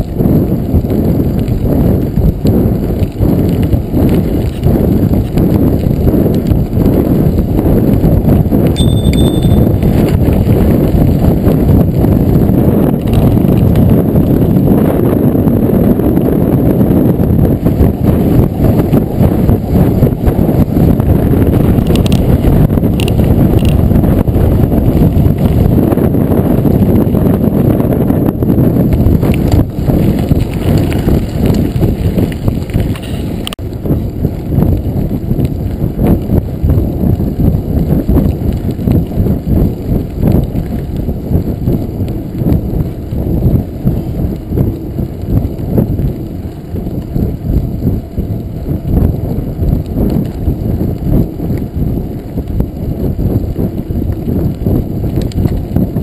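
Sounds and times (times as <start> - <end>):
bike rattling over bumps: 0.0 - 56.0
wind buffeting microphone: 0.0 - 56.0.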